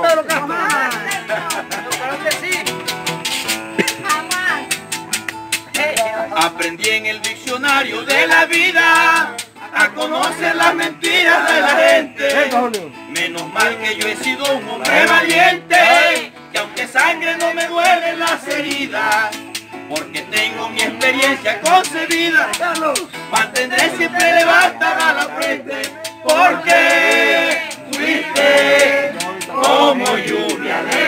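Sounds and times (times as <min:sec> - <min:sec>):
acoustic guitars: 0:00.0 - 0:31.0
man singing: 0:05.8 - 0:31.0.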